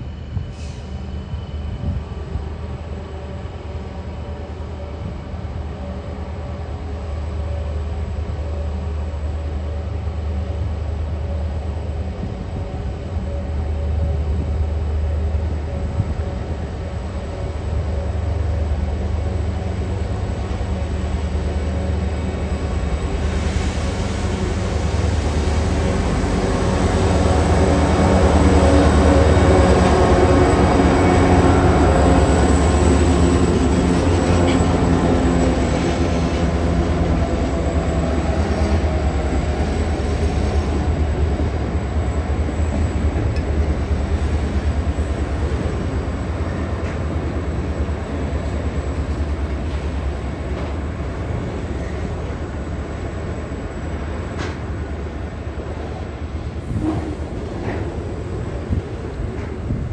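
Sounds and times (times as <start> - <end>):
diesel locomotive engine passing: 0.0 - 59.9.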